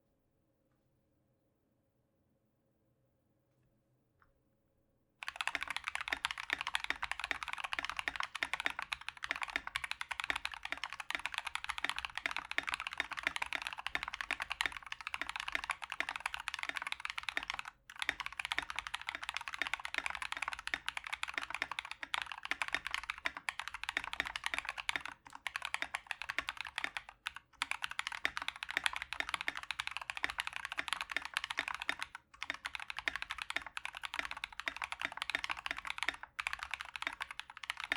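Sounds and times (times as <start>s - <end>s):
typing on mechanical keyboard: 5.2s - 37.9s.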